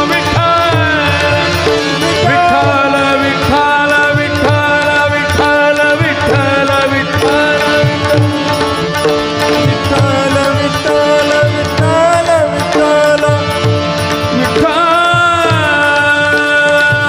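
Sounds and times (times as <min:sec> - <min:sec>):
harmonium: 0:00.0 - 0:17.0
man singing classical style: 0:00.0 - 0:17.0
tabla rhythm: 0:00.0 - 0:17.0.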